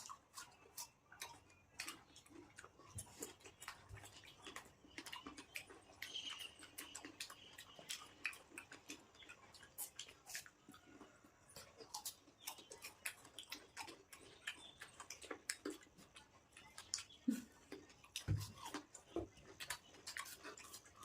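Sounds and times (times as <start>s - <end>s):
chewing fruit: 0.0s - 21.0s.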